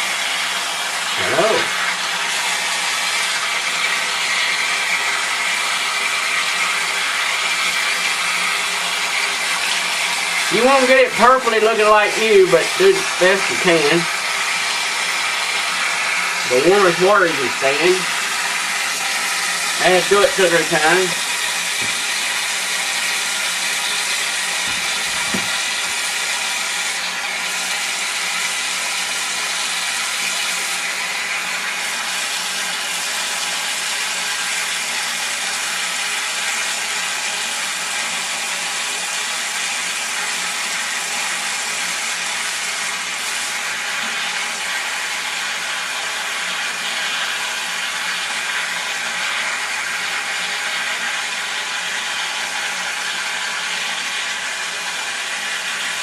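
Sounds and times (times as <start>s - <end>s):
faucet running into sink: 0.0s - 56.0s.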